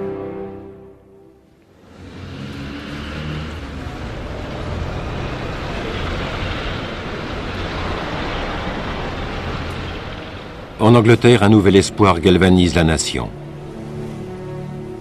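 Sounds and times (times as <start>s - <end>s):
bus engine passing: 0.0s - 15.0s
street traffic noise: 0.0s - 15.0s.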